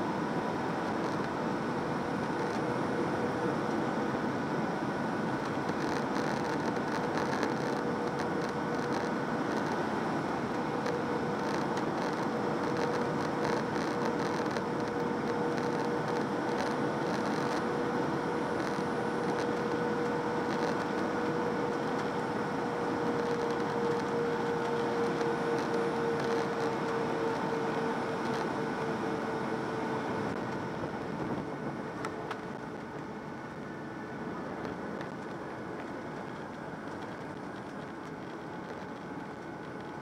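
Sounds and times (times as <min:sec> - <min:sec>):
airflow and engine noise: 0:00.0 - 0:40.0
steady hum: 0:00.0 - 0:40.0.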